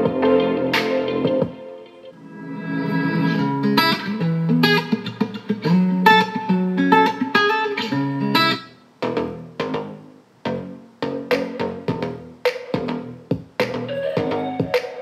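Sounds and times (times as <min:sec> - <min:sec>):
plucked guitar music: 0:00.0 - 0:12.3, 0:12.9 - 0:15.0
music of sharp separate notes: 0:00.0 - 0:15.0.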